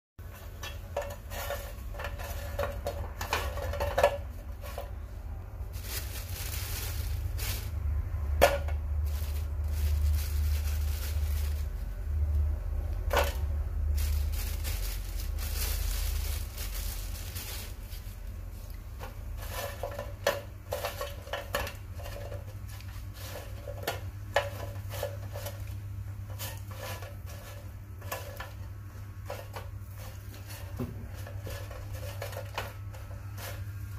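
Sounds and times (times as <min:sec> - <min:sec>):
steady low hum: 0:00.2 - 0:33.9.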